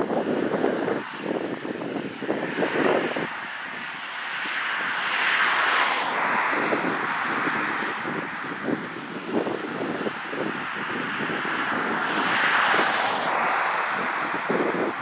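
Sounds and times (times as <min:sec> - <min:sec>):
passing vehicle: 0:00.0 - 0:15.0
wind gusts on microphone: 0:00.0 - 0:15.0.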